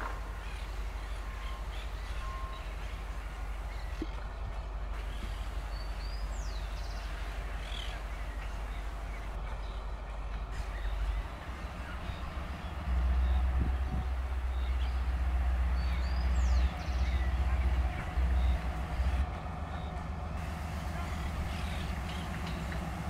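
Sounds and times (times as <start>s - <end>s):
birds chirping: 0.0s - 23.0s
locomotive engine rumble: 0.0s - 23.0s.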